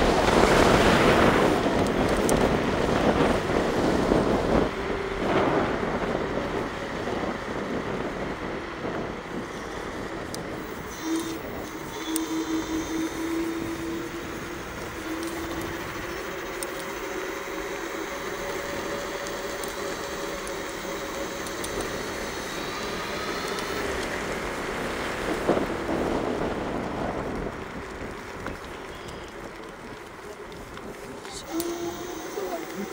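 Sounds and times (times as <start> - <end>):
electric motor whining: 0.0 - 26.4, 30.3 - 32.9
tyre noise on pavement: 0.0 - 32.9
wind noise: 0.0 - 32.9.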